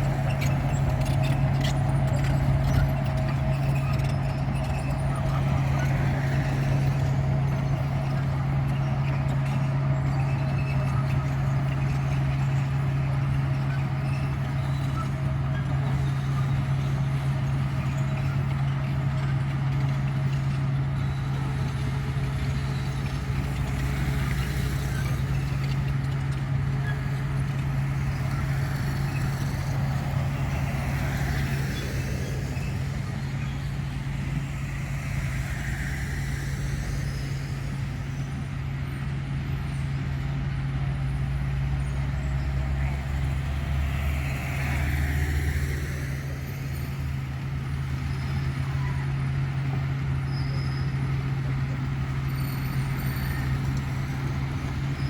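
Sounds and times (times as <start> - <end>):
diesel machinery engine drone: 0.0 - 55.0.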